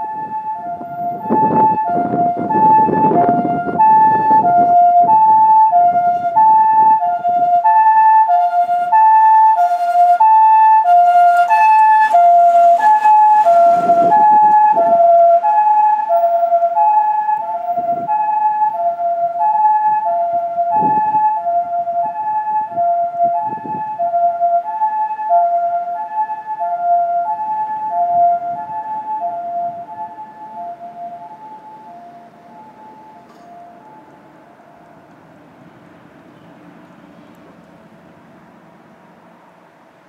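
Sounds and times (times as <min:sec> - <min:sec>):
two-tone ambulance siren: 0:00.0 - 0:39.7.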